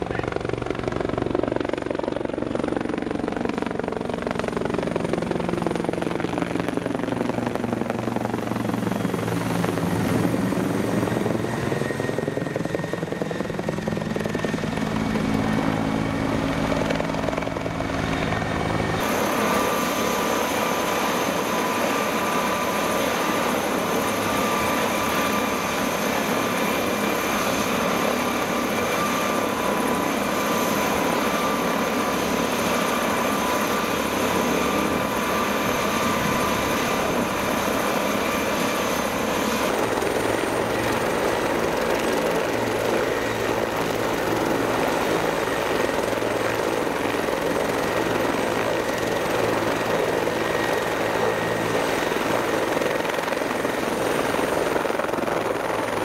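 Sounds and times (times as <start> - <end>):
helicopter rotor: 0.0 - 56.0
turbine whine: 8.4 - 56.0.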